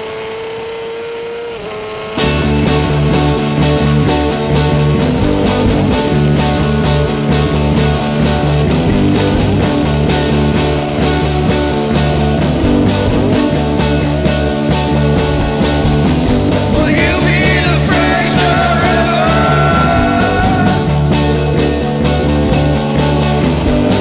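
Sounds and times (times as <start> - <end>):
wavering high lead line: 0.0 - 24.0
background music with steady beat: 2.2 - 24.0.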